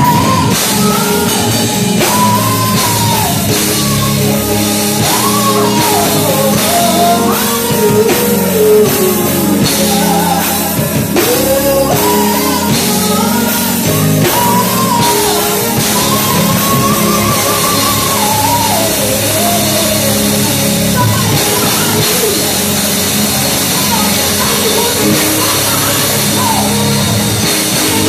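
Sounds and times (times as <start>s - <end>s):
live church band: 0.0s - 28.0s
woman singing gospel: 0.0s - 28.0s.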